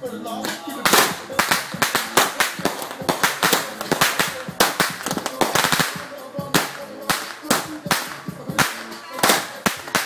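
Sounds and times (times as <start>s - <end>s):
fireworks bangs and cracks: 0.4s - 10.0s.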